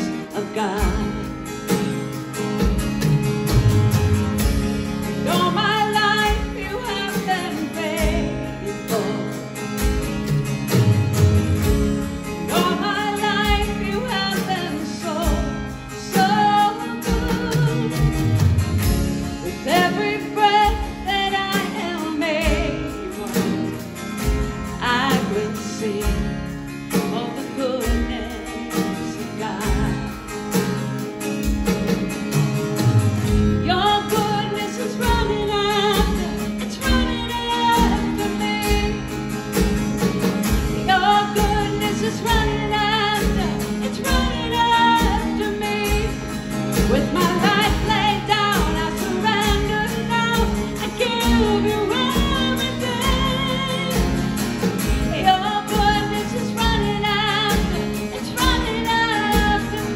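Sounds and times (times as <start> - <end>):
worship song with band: 0.0 - 59.9.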